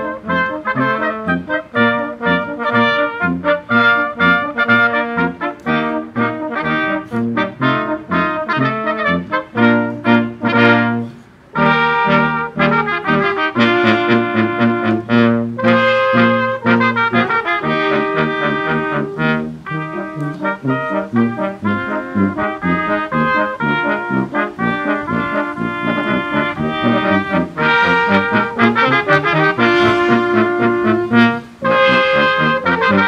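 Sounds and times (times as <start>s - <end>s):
brass quintet playing: 0.0s - 33.0s.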